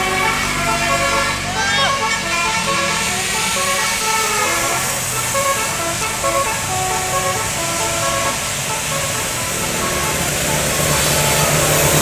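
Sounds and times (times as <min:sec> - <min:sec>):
bus horn playing tune: 0:00.0 - 0:12.0.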